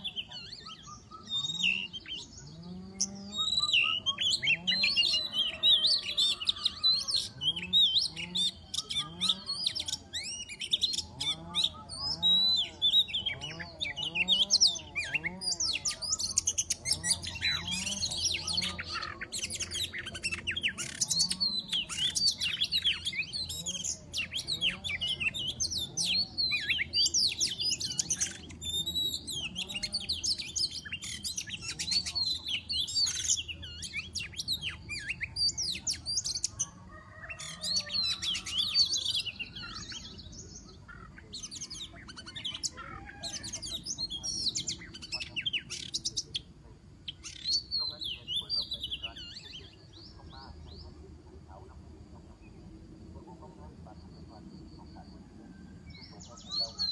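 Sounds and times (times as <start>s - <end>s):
bird song whistles and chatter: 0.0s - 56.9s.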